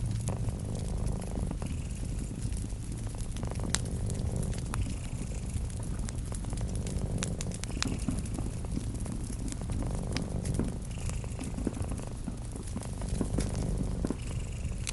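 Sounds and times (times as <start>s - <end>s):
cat purring: 0.0s - 14.9s
wood fire crackling: 0.0s - 14.9s.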